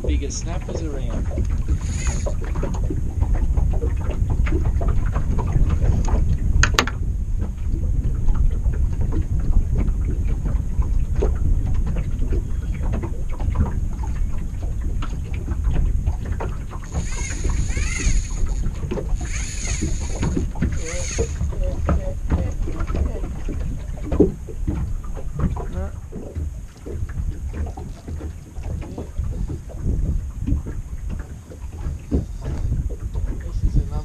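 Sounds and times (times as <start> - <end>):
water lapping at hull: 0.0 - 34.0
wind buffeting microphone: 0.0 - 34.0.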